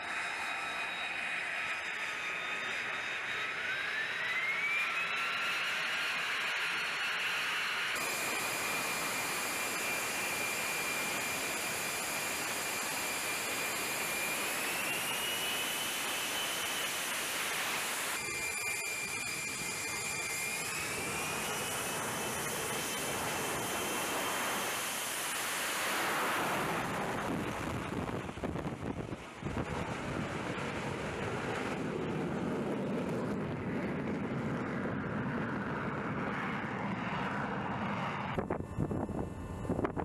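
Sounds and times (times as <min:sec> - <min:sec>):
jet engine whine: 0:00.0 - 0:40.0
jet taking off: 0:00.0 - 0:40.0.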